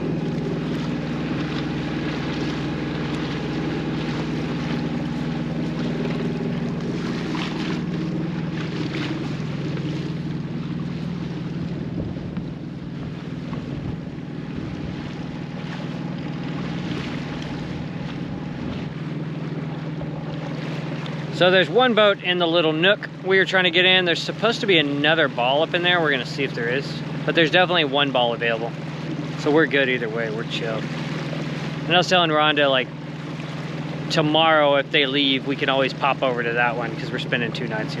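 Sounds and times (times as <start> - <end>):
boat engine running: 0.0 - 38.0
water noise: 0.0 - 38.0
wind: 0.0 - 38.0.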